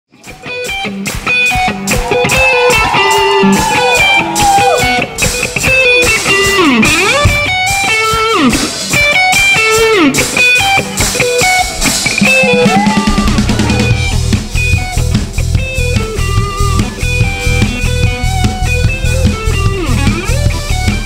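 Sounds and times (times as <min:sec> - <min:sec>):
electric guitar lead with bends: 0:00.1 - 0:21.0
live band backing: 0:00.1 - 0:21.0.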